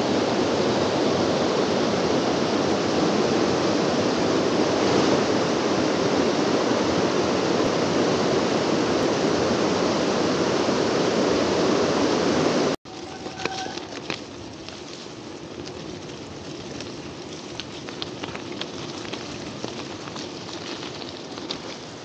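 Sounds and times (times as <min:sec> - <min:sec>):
flooded creek water rushing: 0:00.0 - 0:22.0.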